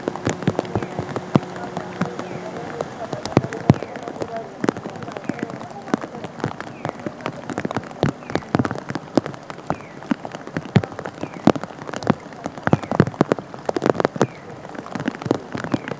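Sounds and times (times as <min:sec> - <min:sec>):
large drops ticking: 0:00.0 - 0:15.9
rain hissing on standing water: 0:00.0 - 0:15.9.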